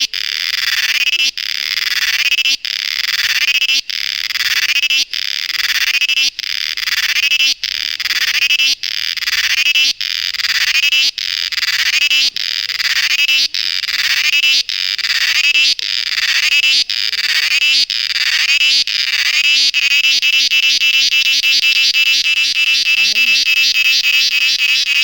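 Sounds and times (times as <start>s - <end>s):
insect buzzing song: 0.0s - 25.0s.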